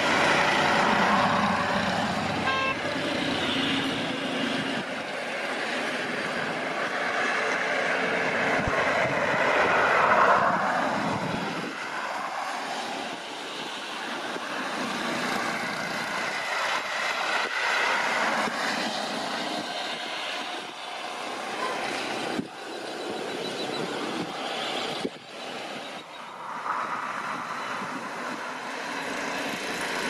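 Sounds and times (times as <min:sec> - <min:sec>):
jet engine roar: 0:00.0 - 0:30.0.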